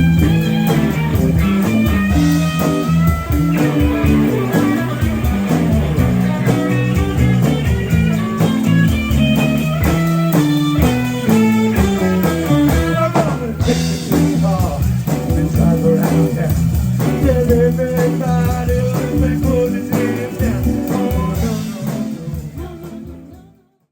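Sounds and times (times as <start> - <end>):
blues-rock band music: 0.0 - 23.6.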